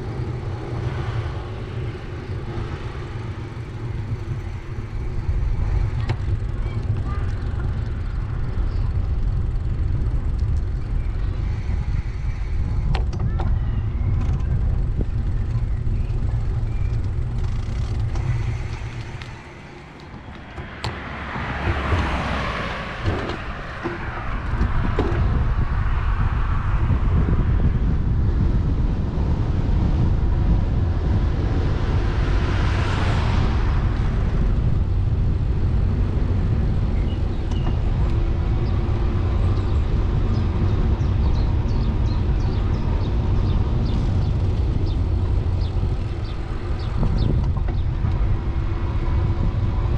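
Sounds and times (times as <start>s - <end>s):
car passing: 0.0s - 49.9s
street traffic rumble: 0.0s - 49.9s.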